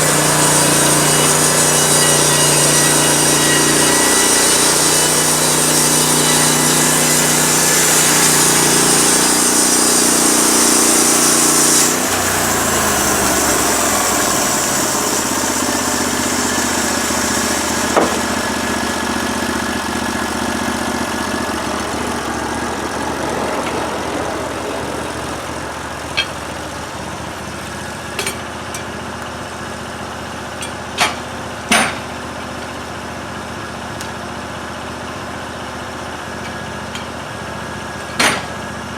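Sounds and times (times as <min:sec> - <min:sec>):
sawmill gas engine running: 0:00.0 - 0:38.9.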